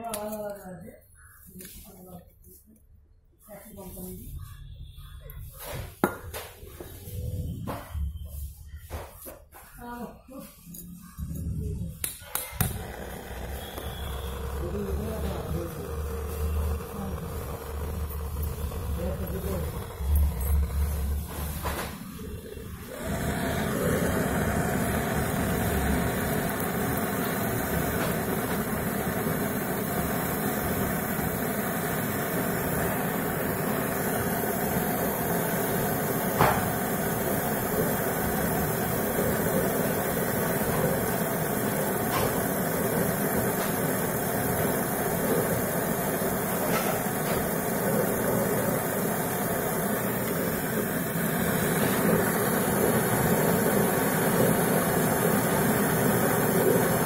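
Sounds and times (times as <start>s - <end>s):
gas torch hissing roar: 11.1s - 57.0s.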